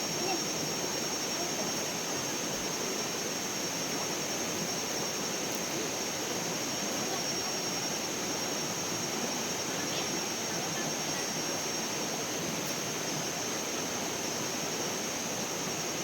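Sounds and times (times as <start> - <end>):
river water flowing: 0.4 - 16.0.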